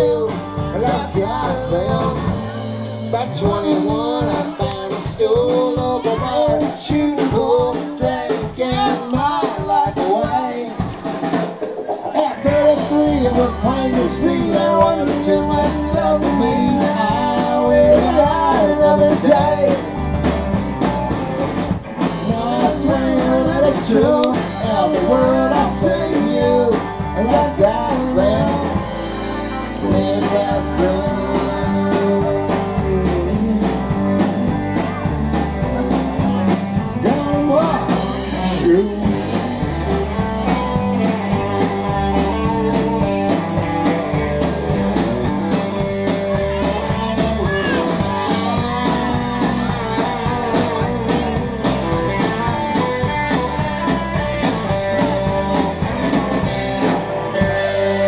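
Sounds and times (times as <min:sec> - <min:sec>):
country-rock song with male singer: 0:00.0 - 0:58.0.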